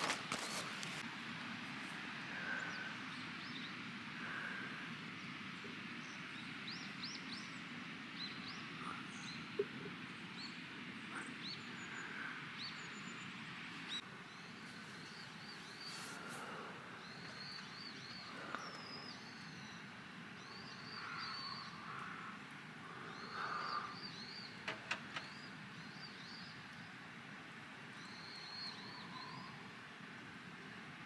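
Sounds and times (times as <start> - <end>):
small birds chirping: 0.0 - 30.8
faint outdoor hiss: 0.0 - 31.0.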